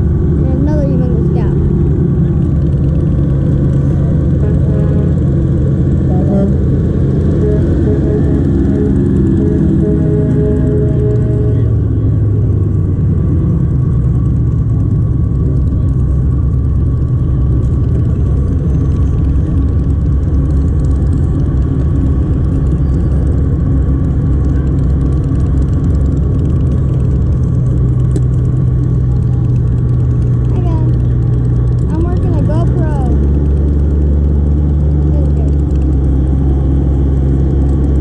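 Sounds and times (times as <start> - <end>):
diesel truck engines rumbling: 0.0 - 38.0.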